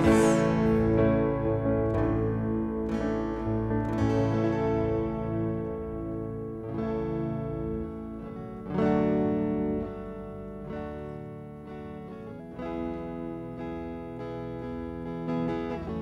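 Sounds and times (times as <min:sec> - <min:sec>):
soft instrumental worship music: 0:00.0 - 0:16.0.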